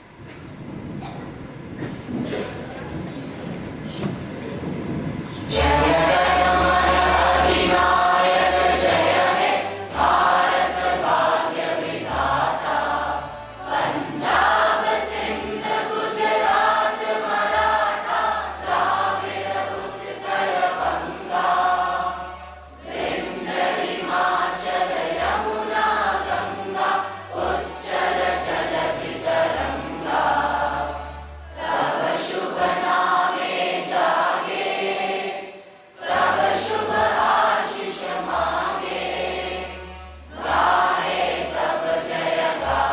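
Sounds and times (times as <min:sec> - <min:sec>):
low accompanying chords: 0:00.0 - 0:42.9
choir singing: 0:05.4 - 0:42.9.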